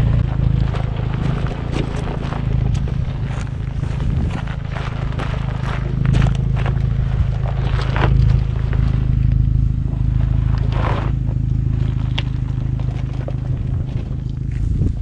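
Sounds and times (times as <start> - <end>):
gravel crunching under tyres: 0.0 - 15.0
off-road engine running: 0.0 - 15.0.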